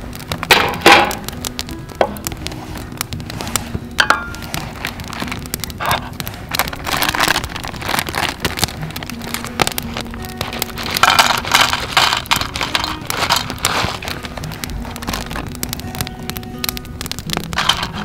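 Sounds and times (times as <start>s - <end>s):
campfire crackling and popping: 0.0s - 18.0s
plastic bag crinkling: 0.0s - 18.0s.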